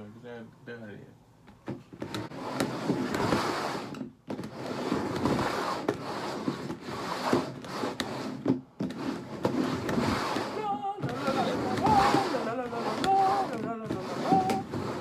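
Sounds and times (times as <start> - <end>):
plastic bowls scraping on table: 2.0 - 15.0.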